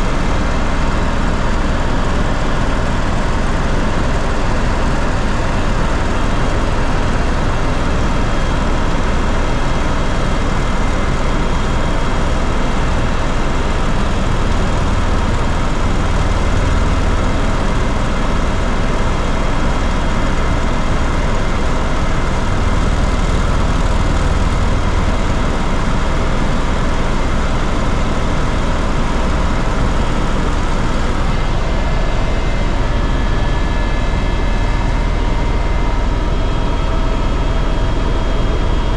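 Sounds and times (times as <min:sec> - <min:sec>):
aircraft cabin engine noise: 0:00.0 - 0:38.9.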